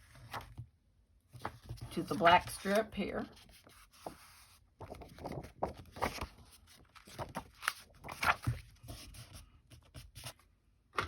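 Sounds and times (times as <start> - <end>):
paper rustling and tapping: 1.3 - 10.3.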